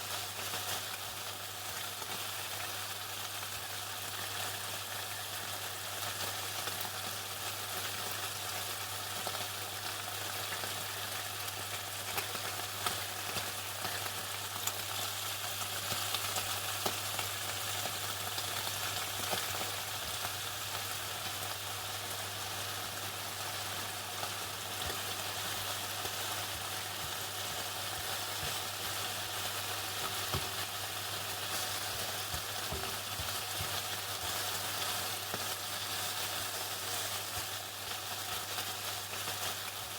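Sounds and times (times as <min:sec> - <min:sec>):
chicken sizzling in a deep fryer: 0:00.0 - 0:39.9.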